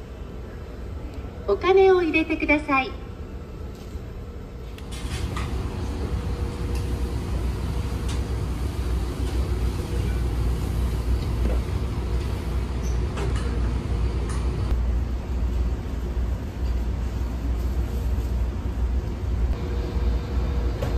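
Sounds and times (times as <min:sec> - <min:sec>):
ship engines droning: 0:00.0 - 0:17.4, 0:18.5 - 0:20.9.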